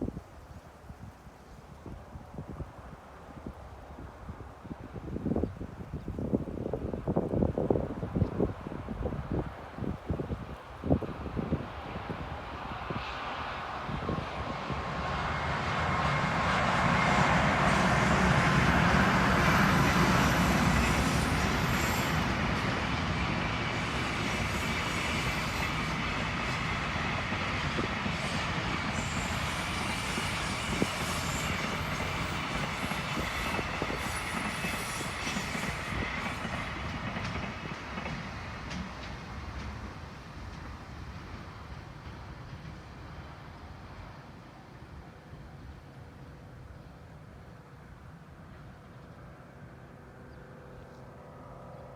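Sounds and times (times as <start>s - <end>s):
electric locomotive passing: 2.4s - 51.9s.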